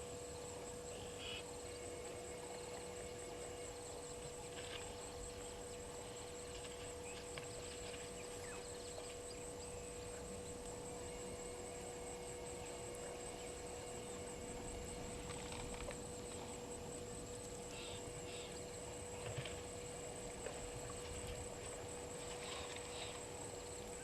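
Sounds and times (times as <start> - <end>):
pulsing insect trill: 0.0 - 24.0
steady electrical hum: 0.0 - 24.0.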